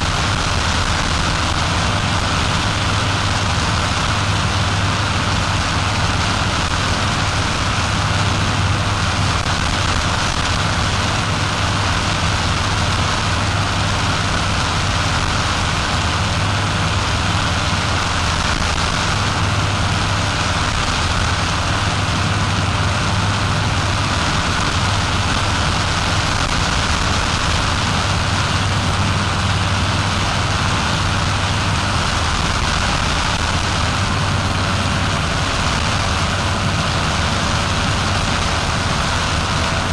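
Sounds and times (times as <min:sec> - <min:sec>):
constant hiss: 0:00.0 - 0:39.9
paramotor engine drone: 0:00.0 - 0:39.9.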